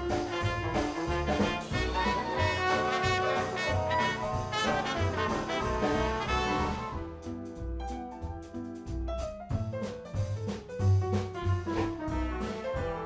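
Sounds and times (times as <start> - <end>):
upbeat jazzy brass music: 0.0 - 13.0.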